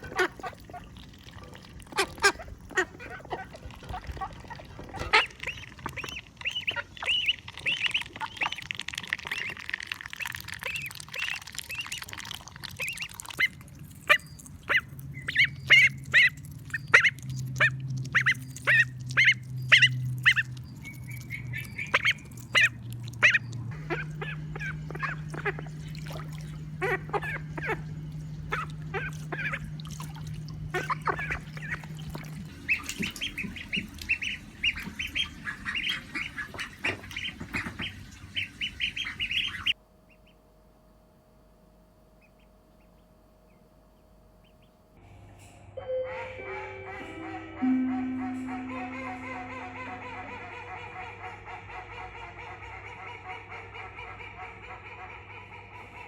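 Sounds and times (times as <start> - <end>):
ducks quacking: 0.0 - 12.1, 12.7 - 40.4, 46.1 - 56.0.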